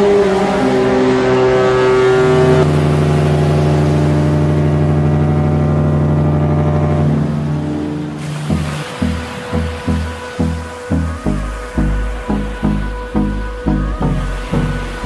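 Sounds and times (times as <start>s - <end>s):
deep sustained bass note: 0.0s - 15.0s
synthesizer chords: 0.0s - 15.0s.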